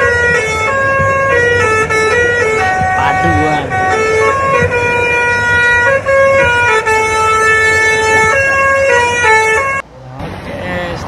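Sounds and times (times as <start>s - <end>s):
musical air horn playing tune: 0.0s - 9.8s.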